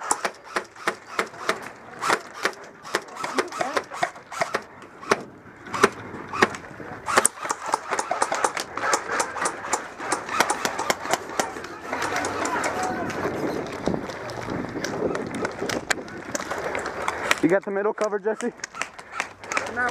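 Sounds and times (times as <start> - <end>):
airsoft guns firing: 0.0 - 13.1, 14.8 - 19.9.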